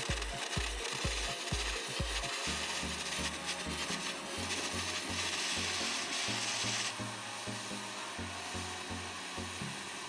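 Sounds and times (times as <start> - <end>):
music with pulsing bass: 0.0 - 10.0
torch flame hissing: 0.0 - 10.0.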